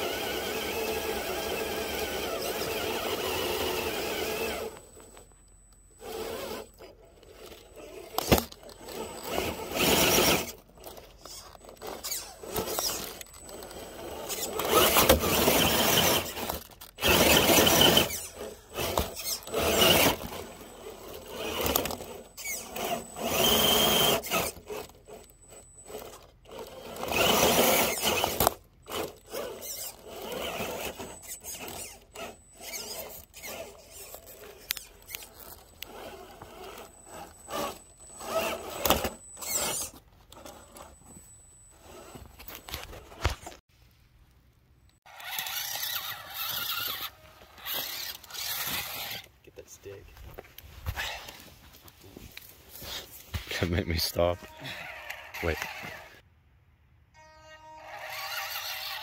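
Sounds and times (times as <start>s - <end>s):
electric motor whining in bursts: 0.0s - 5.3s, 5.9s - 43.2s, 45.1s - 49.3s, 54.0s - 56.2s, 57.2s - 59.0s.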